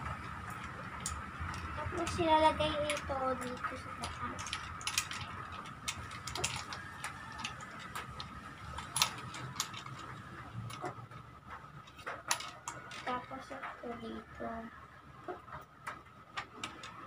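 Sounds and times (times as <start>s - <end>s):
plastic clicks and rattles: 0.2s - 14.3s, 15.2s - 17.0s.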